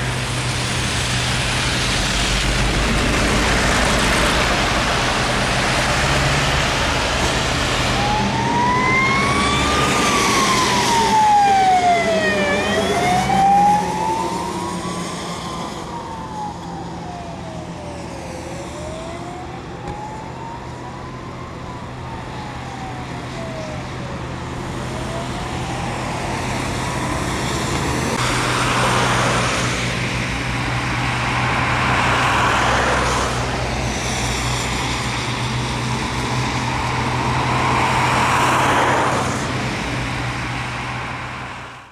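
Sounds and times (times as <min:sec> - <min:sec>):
emergency vehicle siren wailing: 0:00.0 - 0:41.9
passing traffic: 0:00.0 - 0:41.9
road noise: 0:00.0 - 0:41.9.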